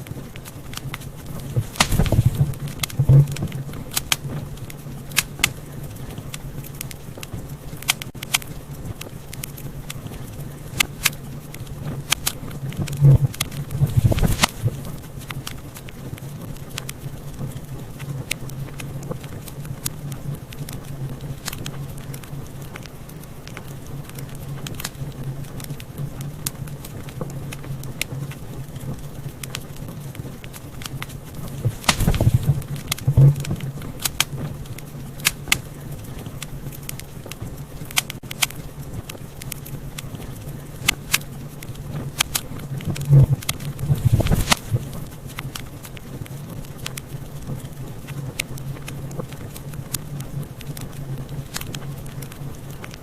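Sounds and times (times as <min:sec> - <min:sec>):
low hum: 0:00.0 - 0:53.0
wood fire crackling: 0:00.0 - 0:53.0.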